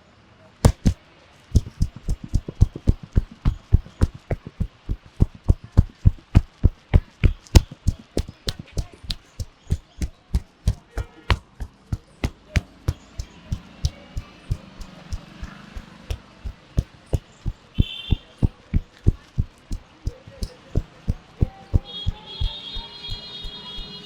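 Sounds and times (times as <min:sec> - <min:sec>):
hands thumping in percussive massage: 0:00.6 - 0:01.0, 0:01.6 - 0:24.0.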